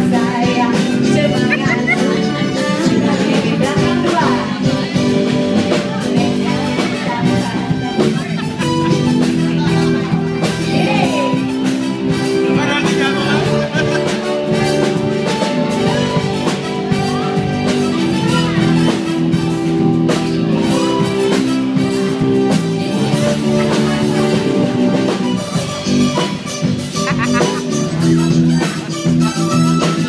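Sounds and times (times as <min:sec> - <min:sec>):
drum kit beat: 0:00.0 - 0:30.0
live band playing dance music: 0:00.0 - 0:30.0.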